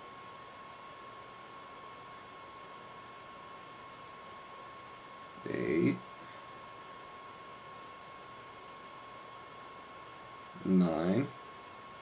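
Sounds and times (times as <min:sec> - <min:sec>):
faint high-pitched whine: 0:00.0 - 0:12.0
steady hiss: 0:00.0 - 0:12.0.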